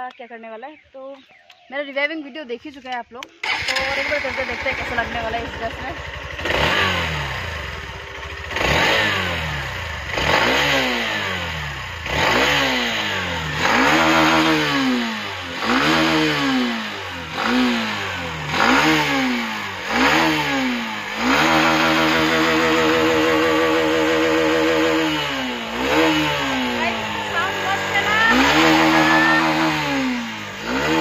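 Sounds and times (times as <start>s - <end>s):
motorcycle engine revving: 3.4s - 31.0s.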